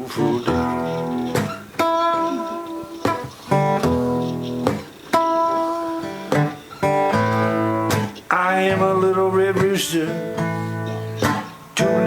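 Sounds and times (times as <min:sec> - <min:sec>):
acoustic guitar strumming blues: 0:00.0 - 0:12.0.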